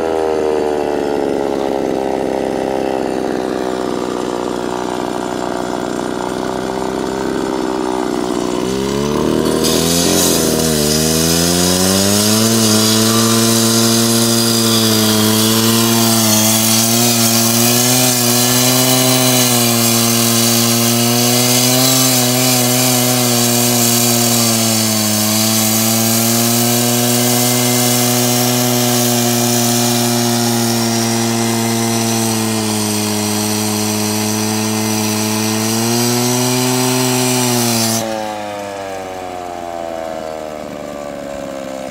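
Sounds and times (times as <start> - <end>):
power cutter grinding concrete: 0.0 - 41.9.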